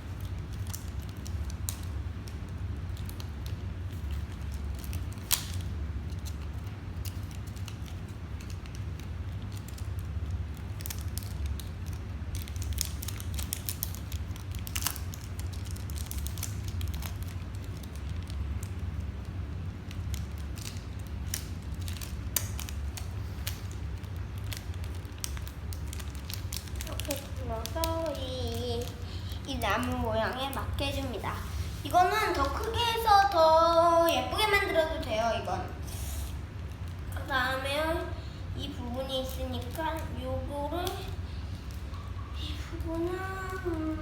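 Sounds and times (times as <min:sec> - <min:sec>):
paper crackling and clicking: 0:00.0 - 0:44.0
steady low hum: 0:00.0 - 0:44.0.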